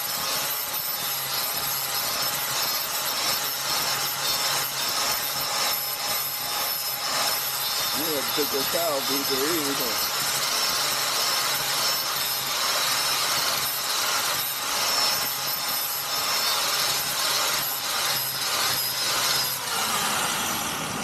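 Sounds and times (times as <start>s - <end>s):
angle grinder grinding metal: 0.0s - 21.0s.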